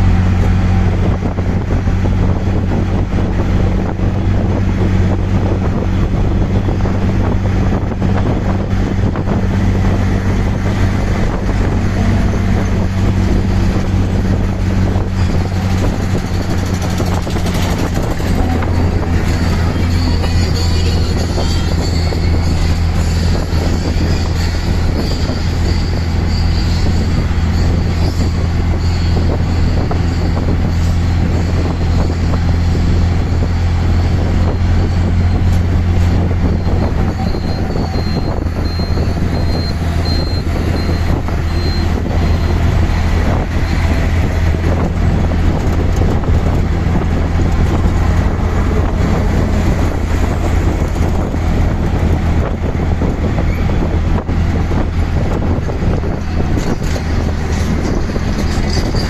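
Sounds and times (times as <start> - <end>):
road and traffic noise: 0.0 - 59.0
small engine droning: 0.0 - 59.0.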